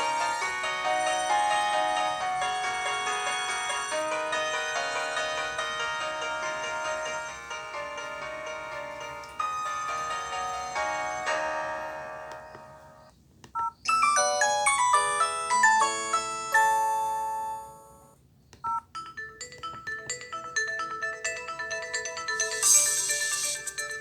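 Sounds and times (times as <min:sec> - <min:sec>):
phone ringtone melodies: 0:00.0 - 0:24.0.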